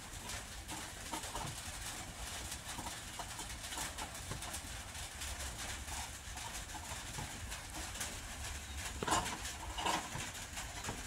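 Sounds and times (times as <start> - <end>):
rain pattering on a roof: 0.0 - 11.0.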